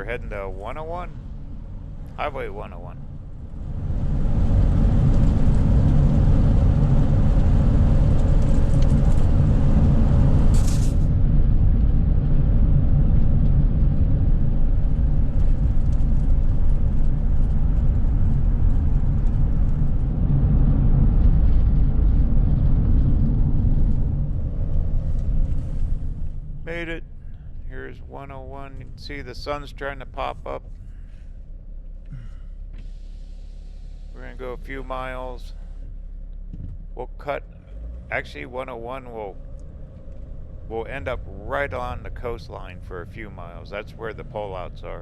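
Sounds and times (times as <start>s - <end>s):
vehicle cabin road rumble: 0.0s - 45.0s.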